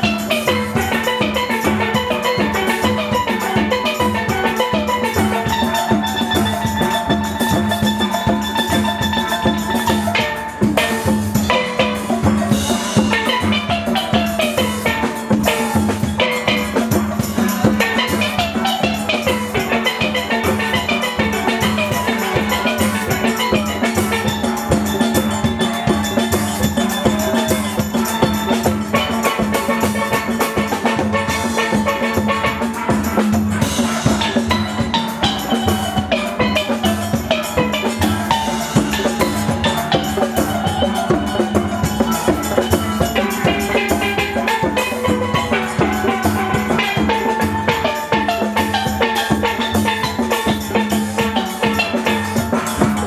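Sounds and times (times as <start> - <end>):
drum and percussion beat: 0.0 - 53.0
steel pans playing: 0.0 - 53.0.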